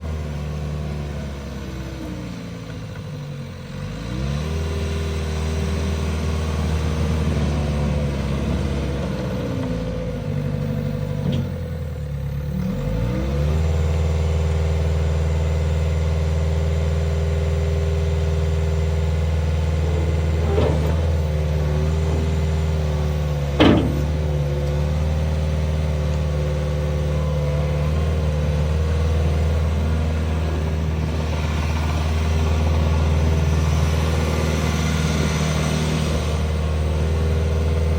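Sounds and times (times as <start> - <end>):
diesel engine revving: 0.0 - 37.9.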